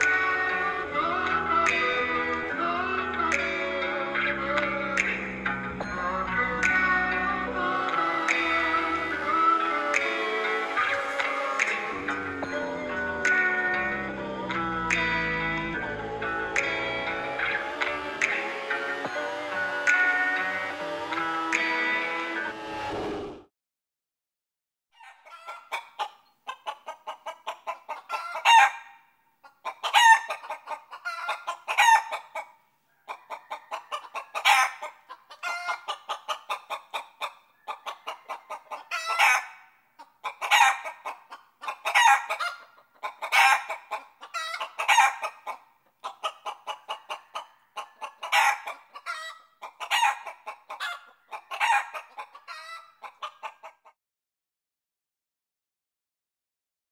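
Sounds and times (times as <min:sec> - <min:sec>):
hen clucking and squawking: 0:00.0 - 0:21.7, 0:25.0 - 0:54.0.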